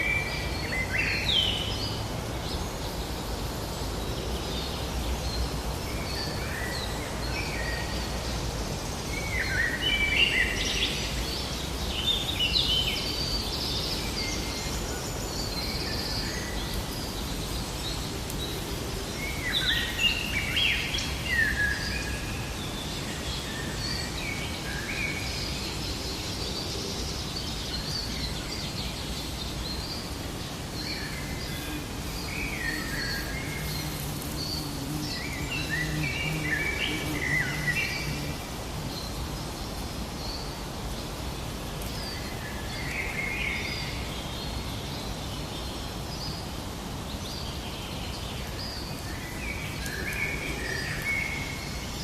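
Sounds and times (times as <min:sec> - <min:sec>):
low outdoor background noise: 0:00.0 - 0:52.0.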